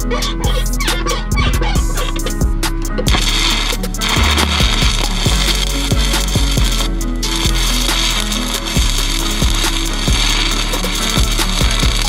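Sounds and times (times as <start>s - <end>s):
welding arc crackling and sizzling: 1.7s - 12.0s
welding arc pops: 1.9s - 12.0s.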